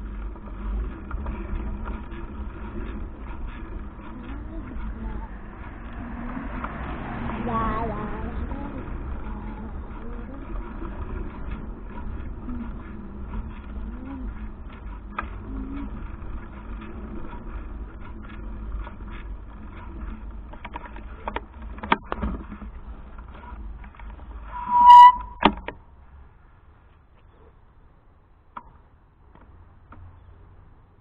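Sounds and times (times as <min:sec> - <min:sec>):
bike clicks and rattles: 0:00.0 - 0:24.6, 0:25.2 - 0:26.2, 0:28.4 - 0:30.6
wind rumbling on camera: 0:00.0 - 0:26.3.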